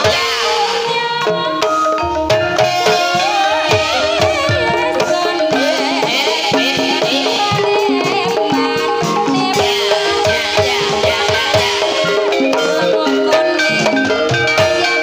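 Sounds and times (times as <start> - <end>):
ringing gamelan tones: 0.0 - 15.0.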